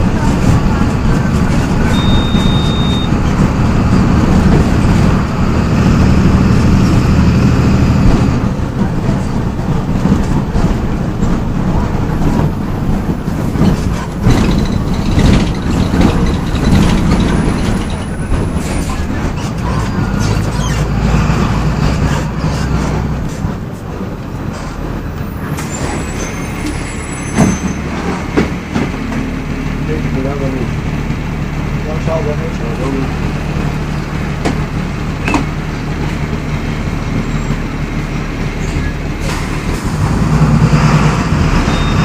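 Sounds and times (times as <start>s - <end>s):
diesel bus engine running: 0.0s - 42.0s.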